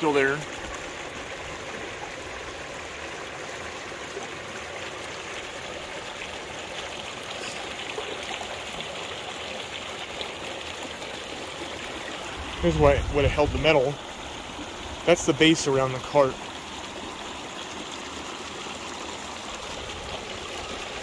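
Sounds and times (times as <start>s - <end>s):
creek running over stones: 0.0s - 21.0s.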